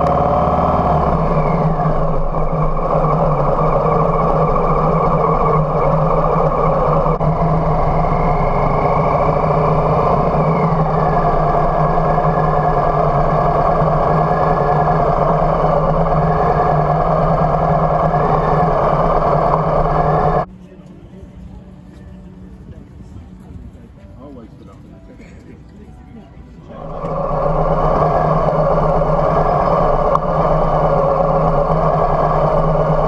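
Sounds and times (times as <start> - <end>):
motorcycle engine running: 0.0 - 24.0, 26.6 - 33.0.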